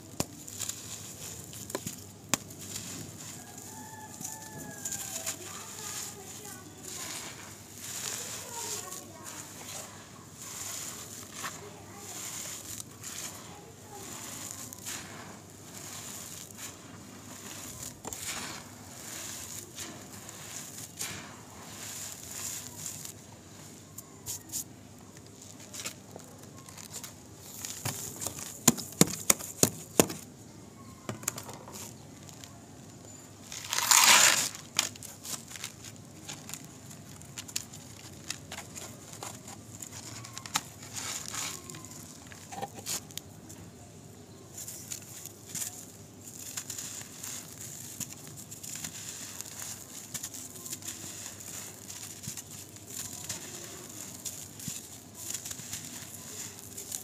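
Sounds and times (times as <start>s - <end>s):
dry dirt crunching and crumbling: 0.0s - 57.0s.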